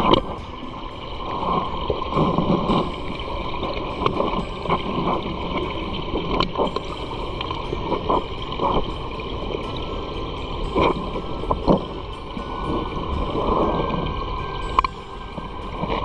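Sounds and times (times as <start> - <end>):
stream water rushing: 0.0 - 16.0
water splashes: 0.0 - 16.0.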